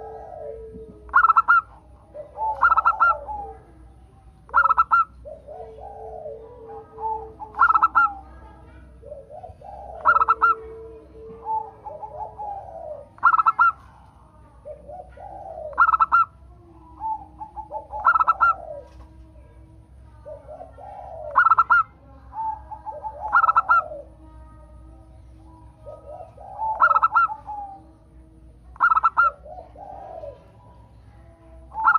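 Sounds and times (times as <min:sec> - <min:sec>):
softer low cooing: 0:00.0 - 0:03.9, 0:04.5 - 0:25.0, 0:25.8 - 0:31.9
dove cooing song: 0:00.0 - 0:31.9.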